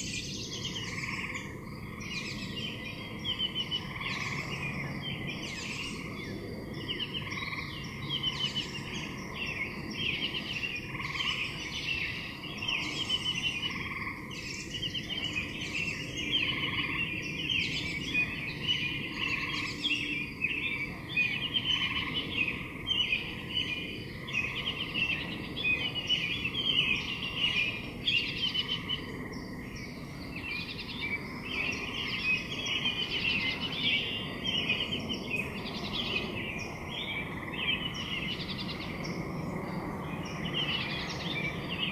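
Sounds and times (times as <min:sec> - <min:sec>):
birds chirping and twittering: 0:00.0 - 0:41.9.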